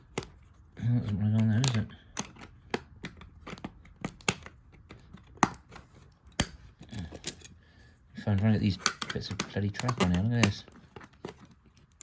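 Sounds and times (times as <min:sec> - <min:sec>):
plastic pieces clicking: 0:00.0 - 0:07.6, 0:08.3 - 0:12.0.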